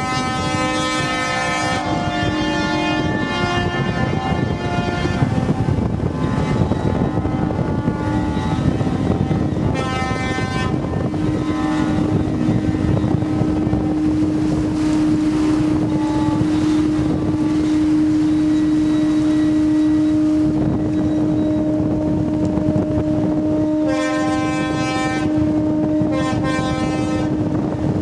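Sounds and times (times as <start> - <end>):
higher horn blast: 0.0 - 27.6
long low horn blast: 0.0 - 28.0
ship horns sounding: 0.0 - 28.0
wind noise on microphone: 0.0 - 28.0.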